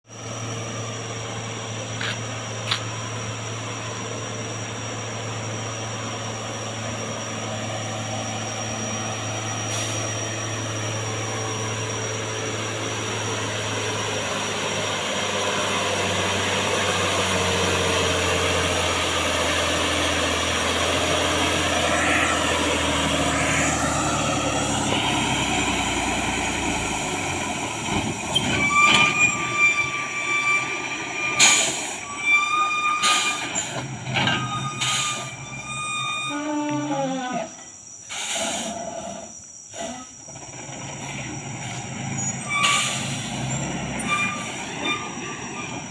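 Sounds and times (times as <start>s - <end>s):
diesel truck engine labouring: 0.0s - 45.9s
high brake squeal: 0.1s - 45.9s.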